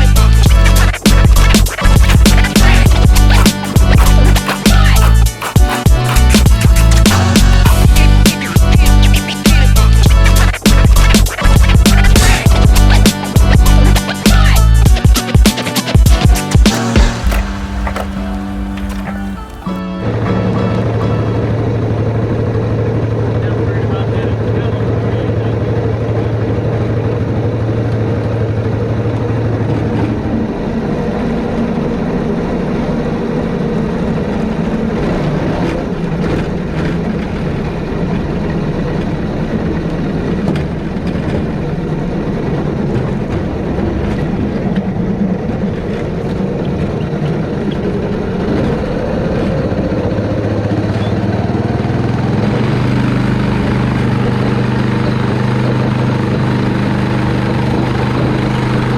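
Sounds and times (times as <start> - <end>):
small engine running: 0.0 - 19.8, 21.6 - 58.9.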